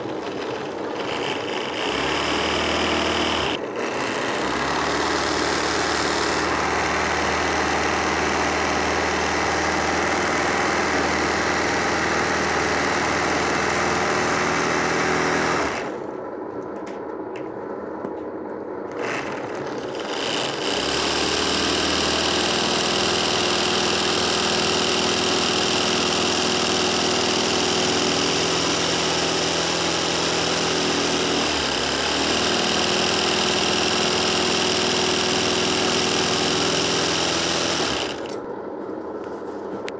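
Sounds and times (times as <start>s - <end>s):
sewing machine running: 0.0s - 16.1s, 18.9s - 38.4s.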